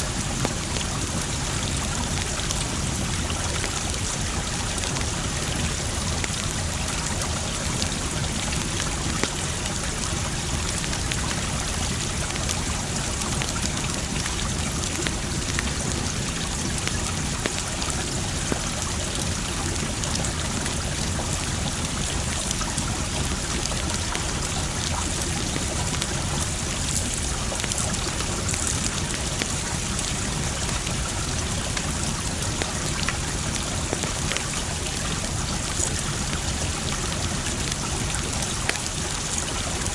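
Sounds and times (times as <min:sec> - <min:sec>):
campfire crackling and popping: 0:00.0 - 0:39.9
trickling stream: 0:00.0 - 0:39.9.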